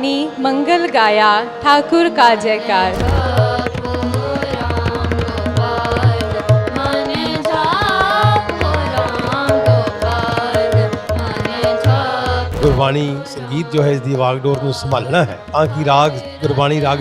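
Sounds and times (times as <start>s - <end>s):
person singing: 0.0s - 17.0s
tabla rhythm: 0.1s - 17.0s.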